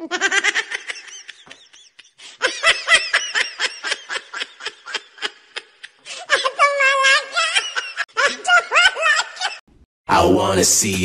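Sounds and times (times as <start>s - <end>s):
person laughing: 0.0s - 9.6s.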